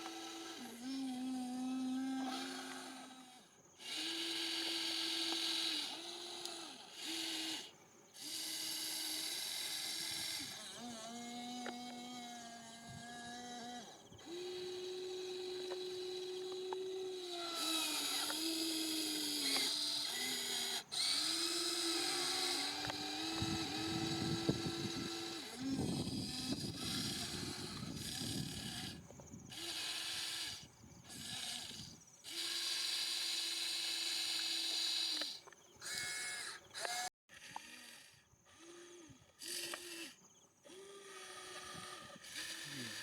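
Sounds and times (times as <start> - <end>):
small electric motors whining: 0.0 - 43.0.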